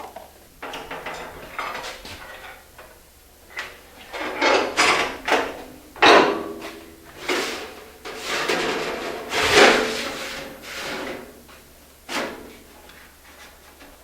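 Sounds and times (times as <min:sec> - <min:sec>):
sheet metal clattering and scraping: 0:00.6 - 0:13.8.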